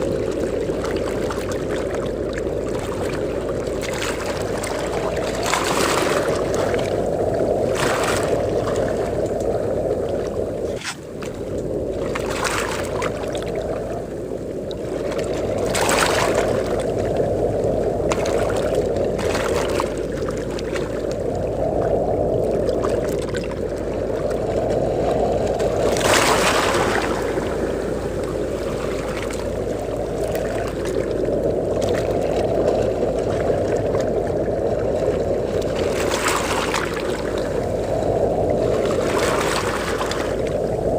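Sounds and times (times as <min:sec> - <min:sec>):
surf: 0:00.0 - 0:40.9
waves breaking with splashy hiss: 0:00.0 - 0:40.9
wind rumble on microphone: 0:00.0 - 0:40.9.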